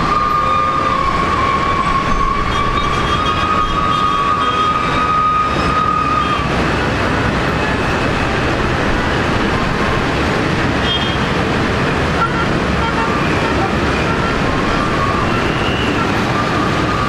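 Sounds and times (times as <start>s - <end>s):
jet engines roaring with high whine: 0.0s - 17.0s.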